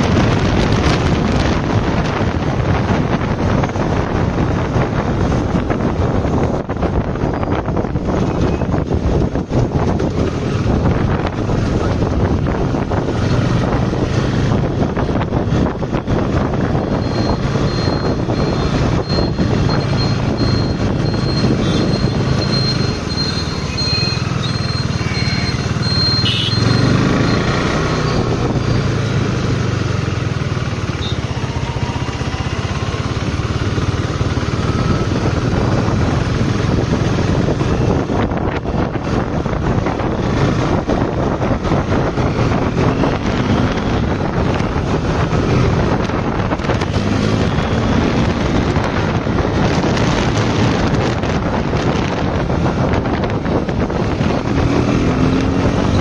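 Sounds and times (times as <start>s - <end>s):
motorcycle engine drone: 0.0s - 56.0s
wind noise on microphone: 0.0s - 56.0s.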